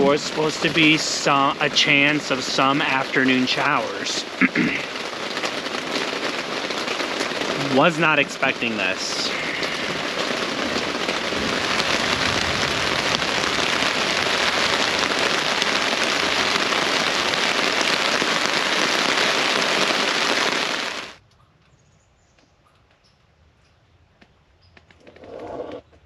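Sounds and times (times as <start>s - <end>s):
heavy rain pouring: 0.0s - 21.2s.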